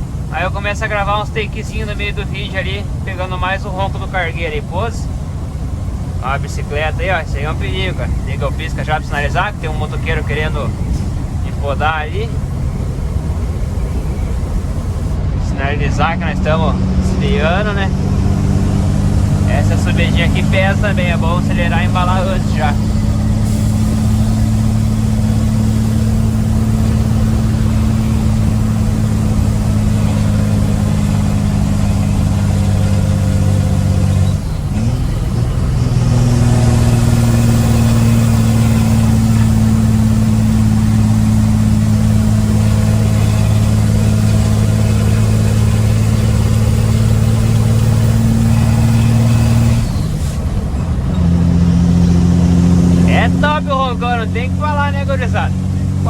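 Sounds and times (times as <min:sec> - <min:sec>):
truck diesel engine pulling hard: 0:00.0 - 0:56.0.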